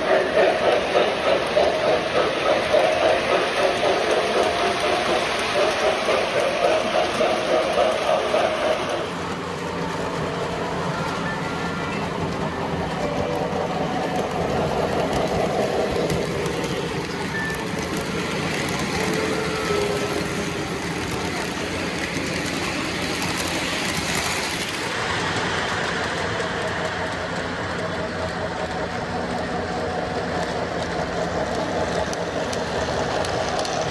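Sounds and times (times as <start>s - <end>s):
model trains running on track: 0.0s - 33.9s.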